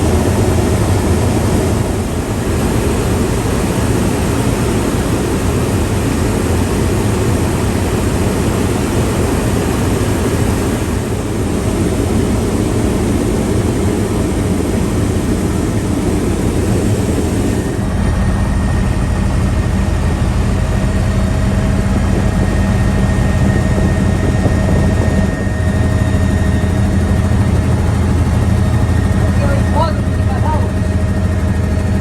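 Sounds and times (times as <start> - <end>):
helicopter rotor and engine: 0.0 - 32.0.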